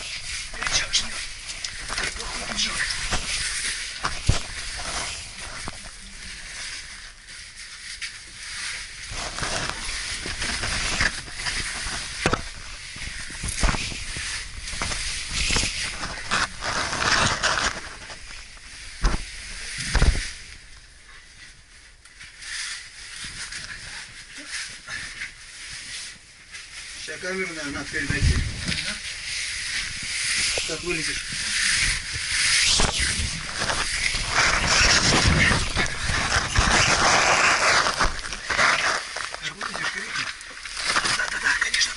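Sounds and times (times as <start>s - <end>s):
clothing scraping against rock: 0.0s - 20.4s, 25.6s - 41.9s.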